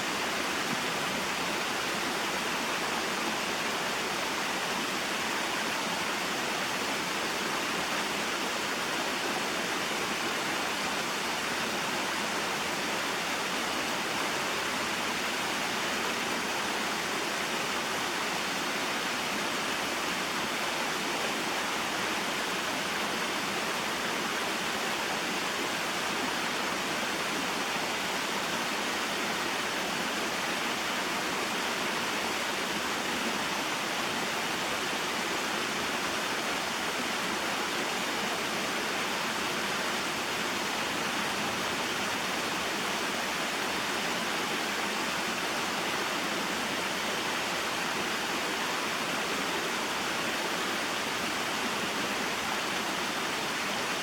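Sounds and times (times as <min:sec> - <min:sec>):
waterfall and stream splashing: 0:00.0 - 0:54.0.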